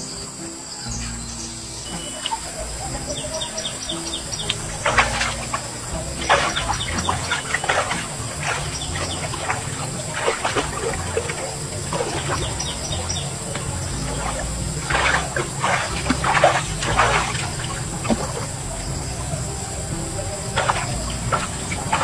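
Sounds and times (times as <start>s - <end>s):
water splashing and sloshing: 0.0s - 22.0s
steady low rumble: 0.9s - 22.0s.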